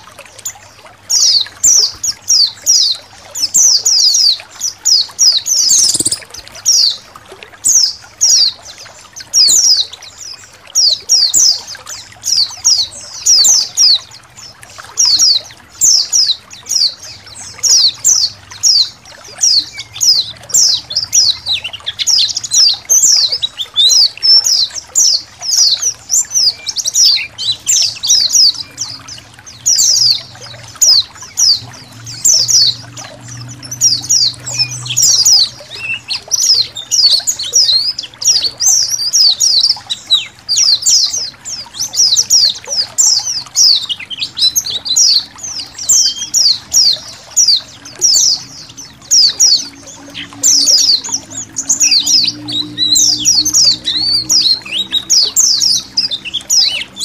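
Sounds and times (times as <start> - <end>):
flock of birds chirping: 0.0 - 57.0
trickling water: 0.0 - 57.0.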